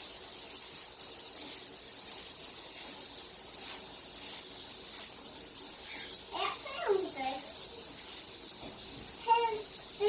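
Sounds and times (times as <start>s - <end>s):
spray bottle misting water: 0.0s - 10.0s.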